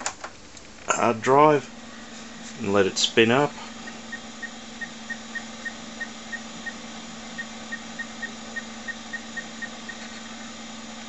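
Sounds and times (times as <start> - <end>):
hard disk drive hum: 0.0 - 11.0
hard disk drive chirps: 1.6 - 11.0.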